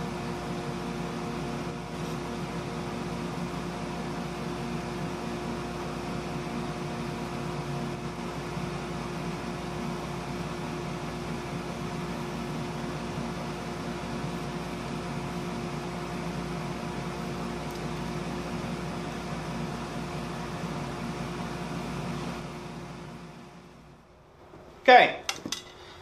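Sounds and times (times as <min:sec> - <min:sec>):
electric blower motor humming: 0:00.0 - 0:23.5.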